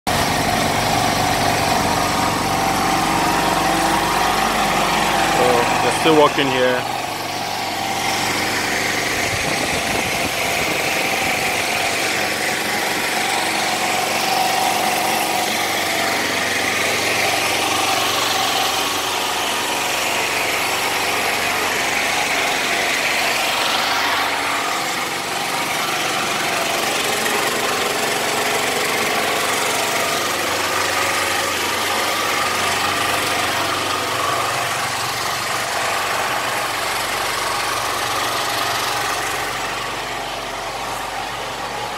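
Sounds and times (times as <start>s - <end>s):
small engine droning: 0.1s - 41.9s.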